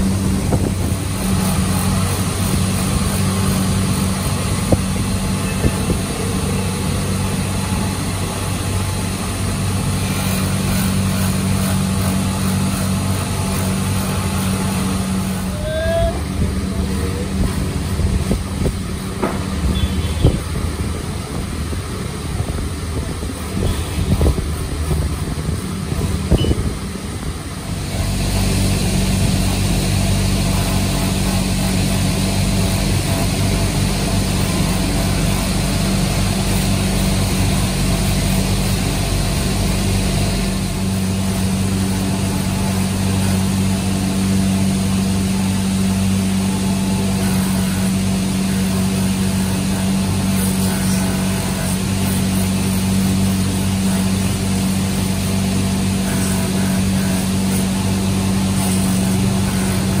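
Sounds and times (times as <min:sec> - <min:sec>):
buffing machine motor hum: 0:00.0 - 1:00.0.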